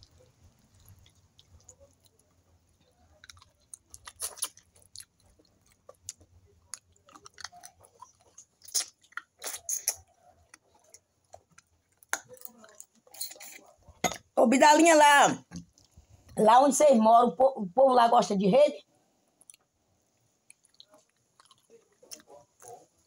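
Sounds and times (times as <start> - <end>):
person chewing food: 0.0 - 14.0, 15.4 - 16.4, 19.2 - 23.0.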